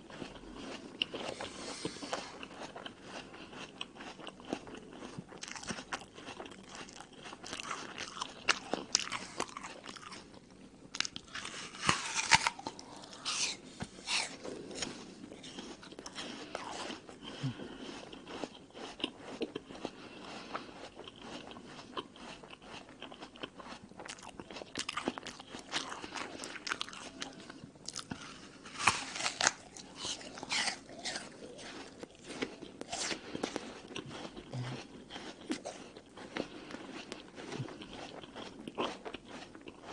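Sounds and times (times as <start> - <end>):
chewing: 0.0 - 39.9
crunching apple bites: 0.1 - 39.9.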